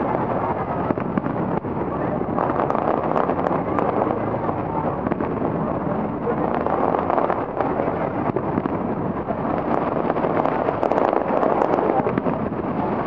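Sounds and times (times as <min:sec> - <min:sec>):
distant firework pops and crackles: 0:00.0 - 0:13.0.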